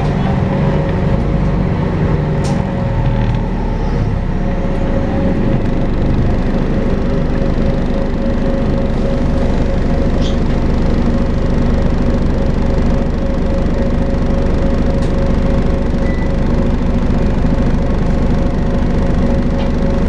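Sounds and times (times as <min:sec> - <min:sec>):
bus engine droning with whine: 0:00.0 - 0:20.0.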